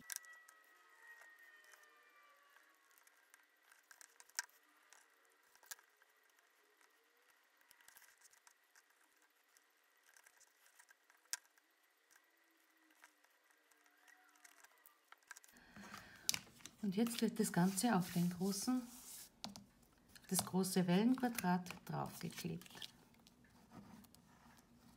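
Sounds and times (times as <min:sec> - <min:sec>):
faint cardstock rustling: 0:02.6 - 0:24.9.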